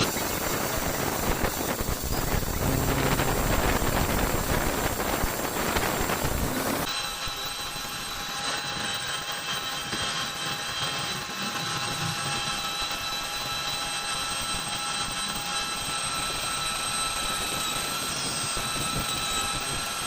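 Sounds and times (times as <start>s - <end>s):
machine tool whining: 0.0s - 16.8s.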